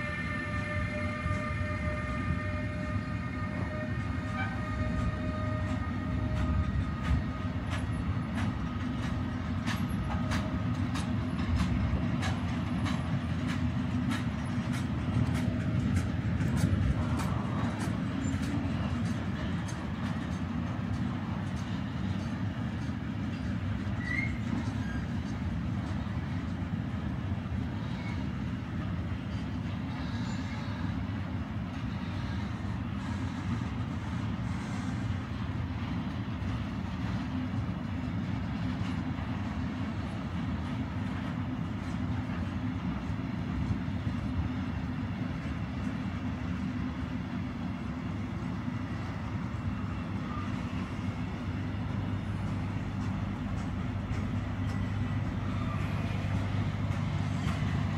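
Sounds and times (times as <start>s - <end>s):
freight train rumbling: 0.0s - 57.9s.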